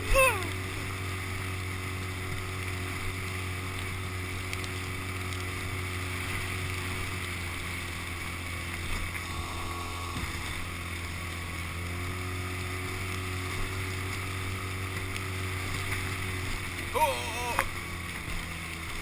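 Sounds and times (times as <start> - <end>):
outboard motor running: 0.0 - 19.0
water splashing along hull: 0.0 - 19.0.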